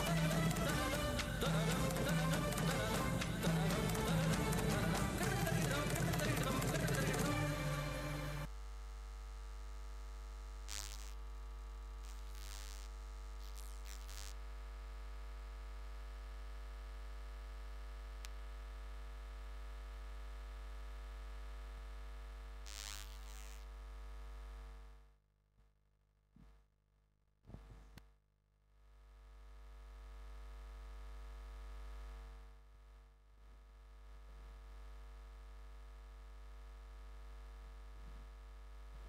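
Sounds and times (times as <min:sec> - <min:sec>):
electrical hum and buzz: 0:00.0 - 0:25.2, 0:28.8 - 0:39.0.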